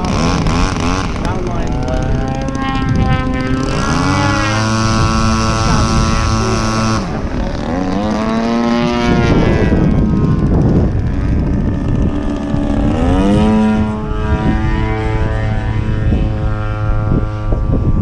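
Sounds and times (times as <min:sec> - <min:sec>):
model airplane engine: 0:00.0 - 0:18.0.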